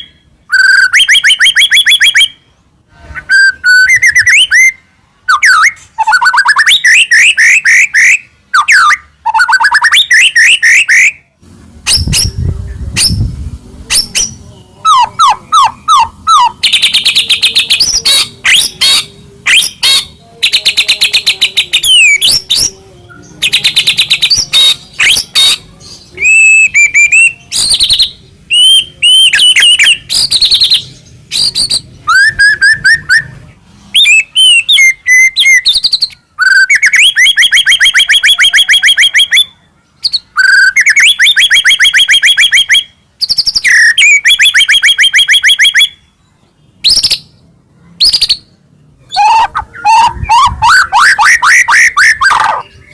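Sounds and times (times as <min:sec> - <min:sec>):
songbird trills and whistles: 0:00.0 - 0:02.5, 0:03.2 - 0:11.3, 0:13.9 - 0:47.4, 0:48.0 - 0:52.9.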